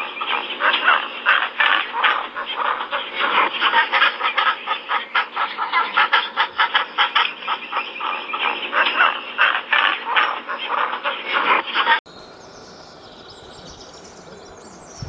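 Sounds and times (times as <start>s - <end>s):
waterfowl calling: 0.0s - 15.0s.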